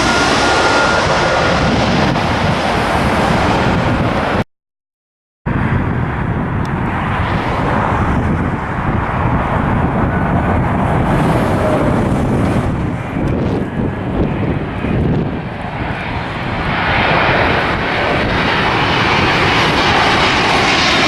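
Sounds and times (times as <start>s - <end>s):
jet engine rushing: 0.0s - 4.4s, 5.5s - 21.0s
wind buffeting microphone: 0.0s - 4.4s, 5.5s - 21.0s.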